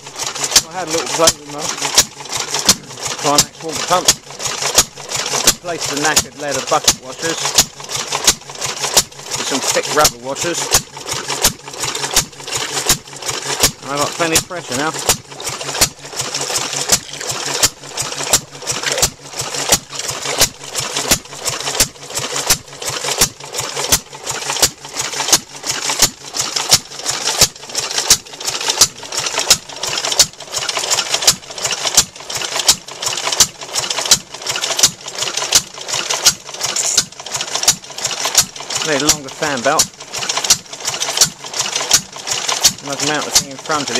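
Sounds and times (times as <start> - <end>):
water pump clanking: 0.0 - 43.9.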